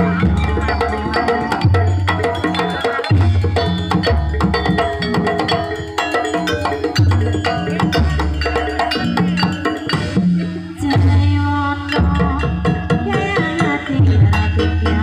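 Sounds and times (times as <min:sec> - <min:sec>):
metallophone and gong tones: 0:00.0 - 0:13.0.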